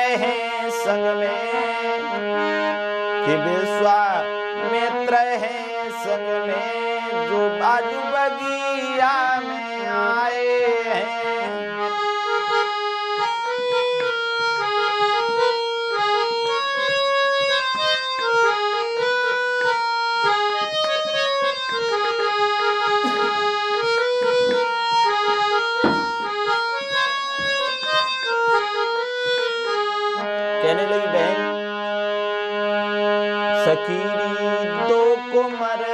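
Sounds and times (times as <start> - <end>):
harmonium melody: 0.0 - 35.9.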